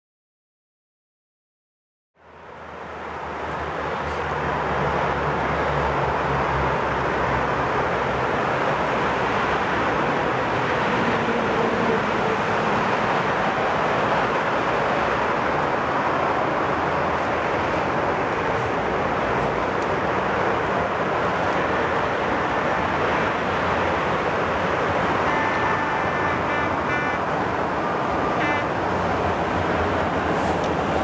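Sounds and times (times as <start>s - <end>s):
train arriving with rushing hum: 2.2s - 31.0s.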